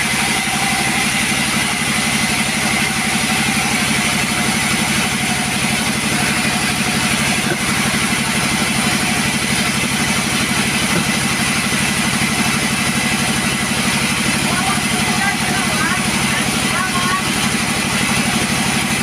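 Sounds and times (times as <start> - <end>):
chainsaw idling: 0.0 - 19.0.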